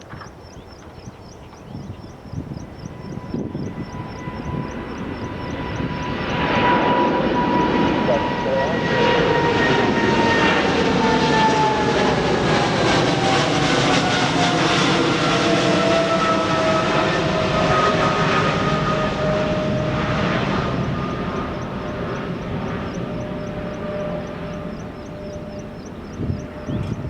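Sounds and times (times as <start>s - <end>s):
jet engines passing: 0.0s - 27.0s.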